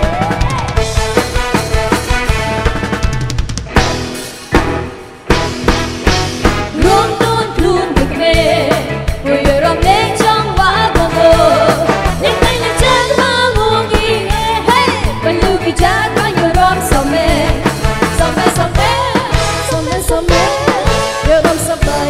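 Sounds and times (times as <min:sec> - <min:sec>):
drum kit beat: 0:00.0 - 0:22.0
live band playing dance song: 0:00.0 - 0:22.0.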